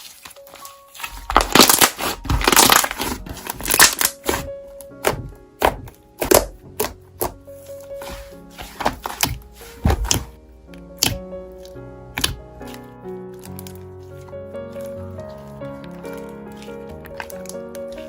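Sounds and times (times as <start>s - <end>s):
slime squishing and crackling: 0.0s - 18.0s
soft piano music: 0.0s - 18.0s.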